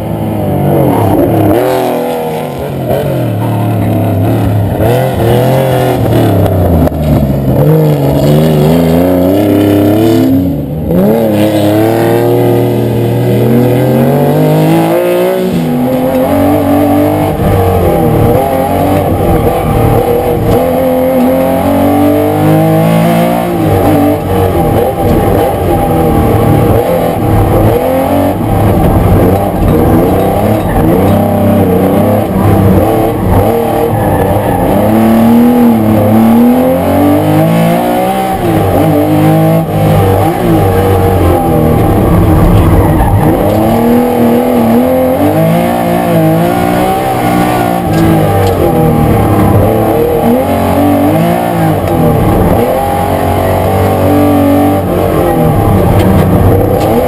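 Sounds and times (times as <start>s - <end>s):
car engine revving and shifting: 0.0s - 57.0s.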